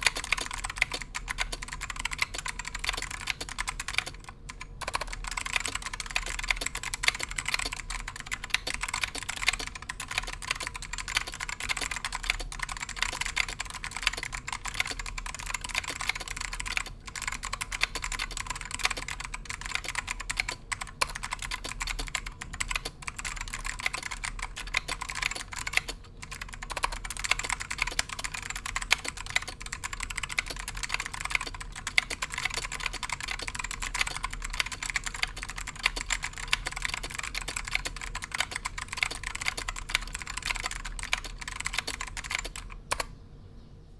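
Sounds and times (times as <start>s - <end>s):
clicky mechanical keyboard typing: 0.0s - 43.1s.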